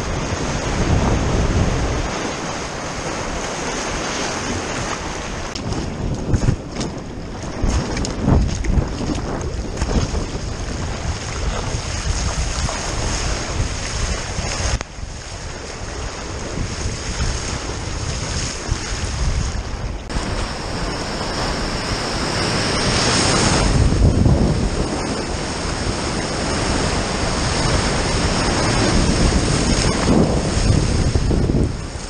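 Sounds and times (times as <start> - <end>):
rushing sea water: 0.0 - 32.0
surf breaking: 0.0 - 32.0
wind buffeting microphone: 0.0 - 32.0.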